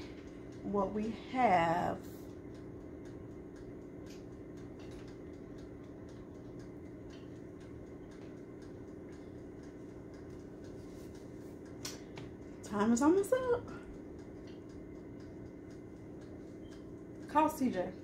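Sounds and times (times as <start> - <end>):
toaster oven fan humming: 0.0 - 18.0.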